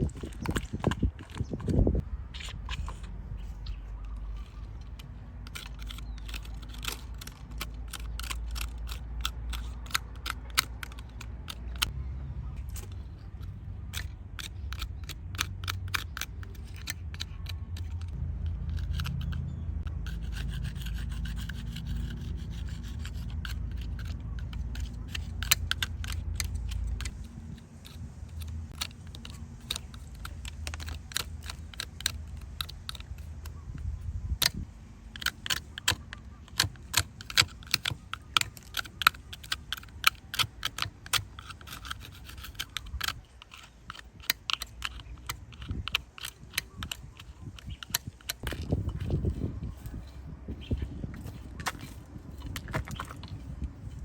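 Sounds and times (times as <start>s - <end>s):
scraping on metal toy car: 0.0s - 54.0s.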